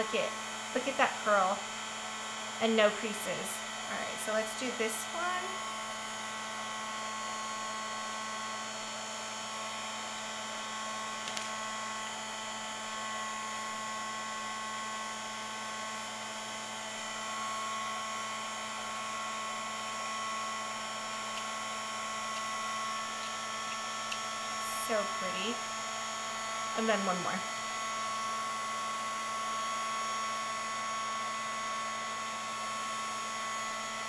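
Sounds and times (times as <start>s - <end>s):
heat tool fan whine and hiss: 0.0s - 34.0s.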